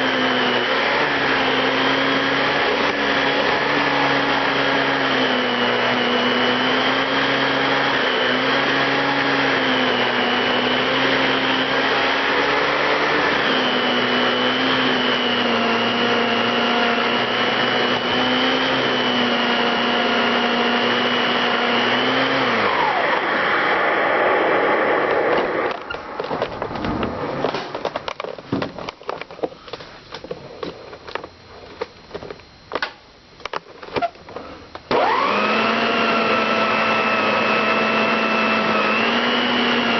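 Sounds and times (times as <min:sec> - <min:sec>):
vacuum cleaner motor hum: 0:00.0 - 0:32.6, 0:33.8 - 0:39.9.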